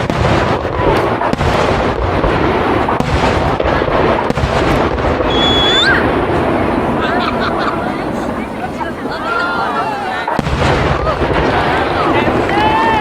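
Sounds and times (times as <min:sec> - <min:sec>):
firework shells booming and crackling: 0:00.0 - 0:13.0.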